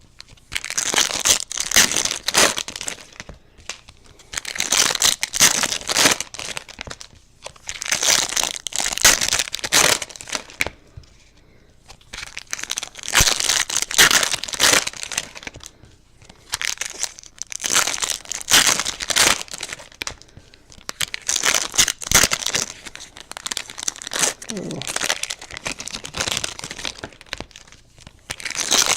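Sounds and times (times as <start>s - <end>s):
foil wrappers tearing and crinkling: 0.5s - 10.7s, 11.9s - 15.7s, 16.4s - 28.9s.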